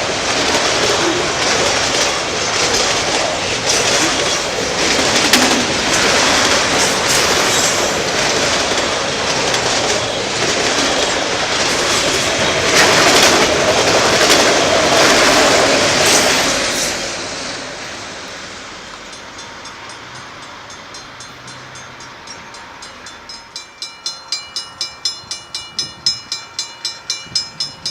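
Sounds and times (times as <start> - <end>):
train wheels clacking on rails: 0.0 - 27.9.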